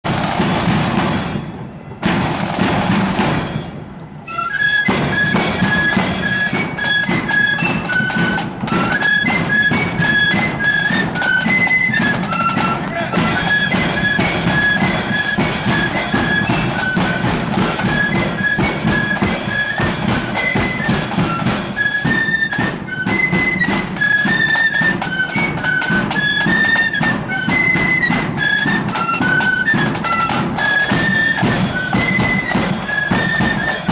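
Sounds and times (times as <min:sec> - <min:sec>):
marching drums: 0:00.0 - 0:33.9
flutes playing quick melody: 0:00.1 - 0:33.9.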